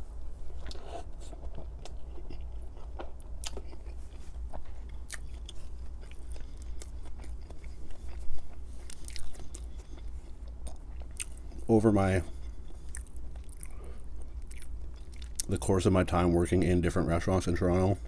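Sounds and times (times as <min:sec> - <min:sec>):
close chewing of food: 0:00.4 - 0:15.6.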